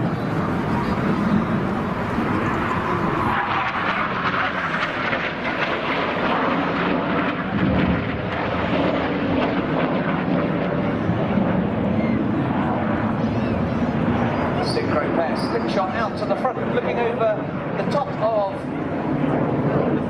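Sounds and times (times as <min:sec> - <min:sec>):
jet engine drone: 0:00.0 - 0:20.0.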